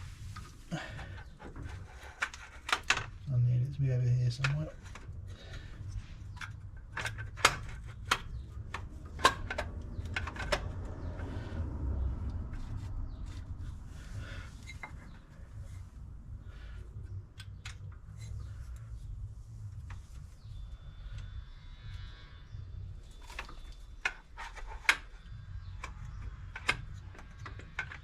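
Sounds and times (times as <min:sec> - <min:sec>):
low rumble: 0:03.1 - 0:24.2, 0:25.0 - 0:27.7.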